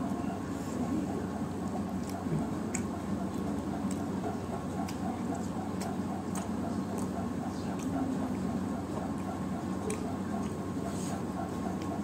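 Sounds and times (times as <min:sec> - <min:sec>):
wet chewing smacks: 0:01.6 - 0:12.0.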